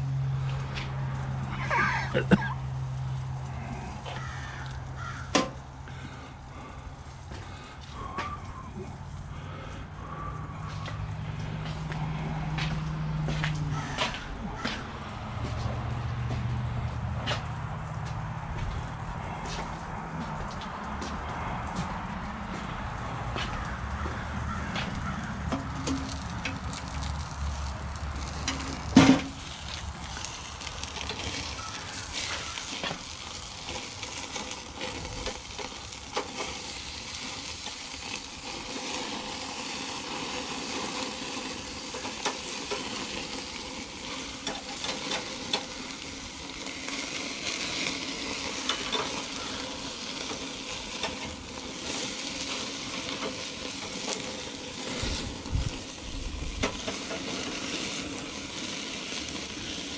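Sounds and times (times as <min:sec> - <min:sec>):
burger patties sizzling on grill: 0:00.0 - 0:59.9.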